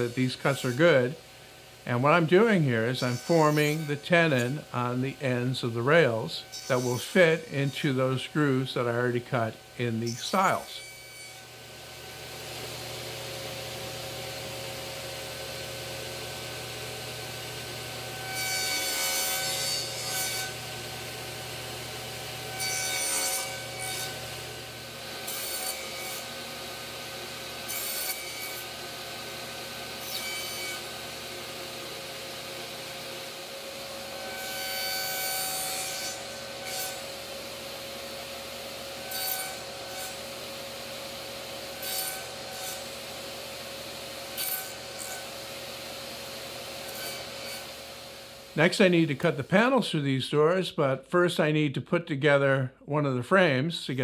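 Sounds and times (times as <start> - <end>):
table saw running: 0.0 - 49.5
saw cutting wood: 0.0 - 49.8.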